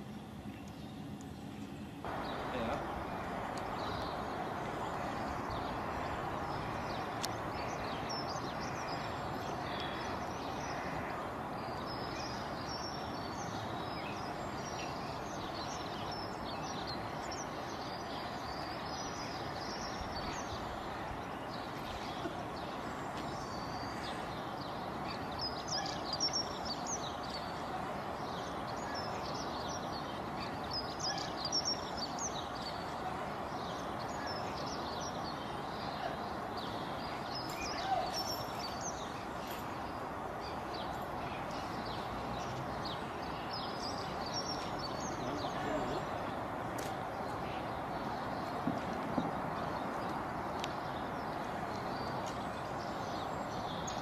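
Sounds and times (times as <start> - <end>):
steady rushing background noise: 0.0 - 54.0
small birds chirping: 0.2 - 54.0.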